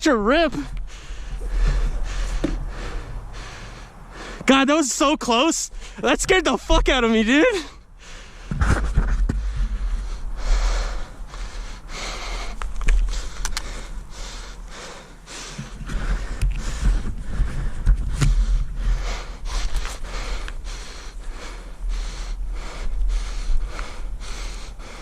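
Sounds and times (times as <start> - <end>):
steady low rumble: 0.0 - 25.0
person breathing hard: 0.6 - 4.5, 5.7 - 6.1, 7.5 - 25.0.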